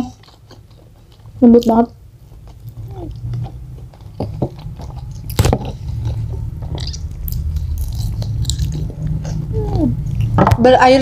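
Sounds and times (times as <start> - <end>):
people chewing food: 0.0 - 10.8.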